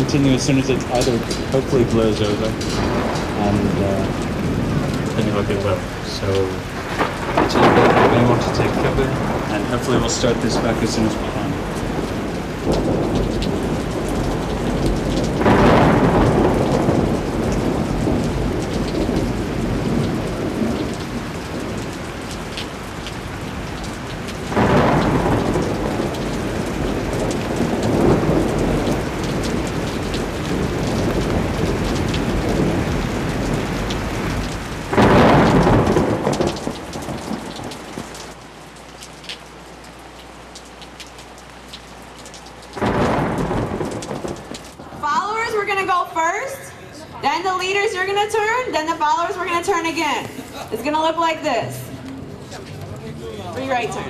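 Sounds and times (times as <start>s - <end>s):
steady rain: 0.0s - 54.0s
thunder rolling: 0.0s - 54.0s.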